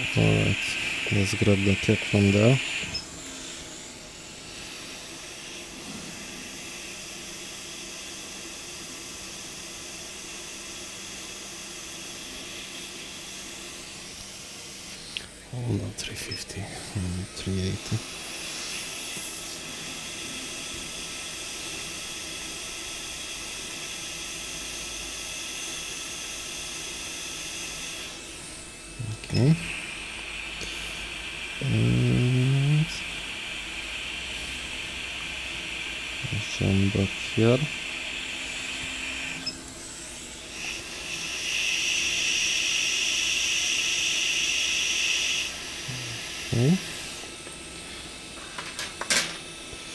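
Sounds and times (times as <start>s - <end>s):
hot air blower hissing: 0.0s - 49.9s.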